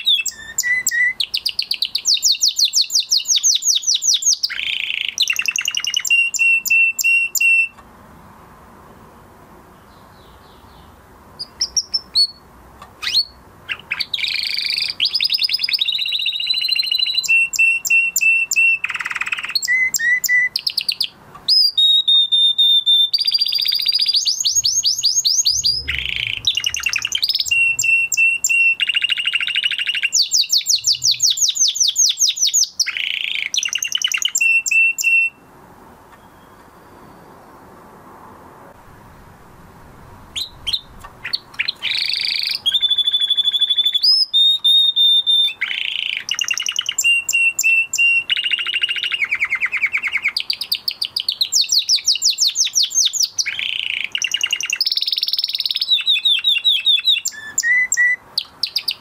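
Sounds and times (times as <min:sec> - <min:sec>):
canary singing trills: 0:00.0 - 0:07.8, 0:09.7 - 0:35.5, 0:39.9 - 0:59.0.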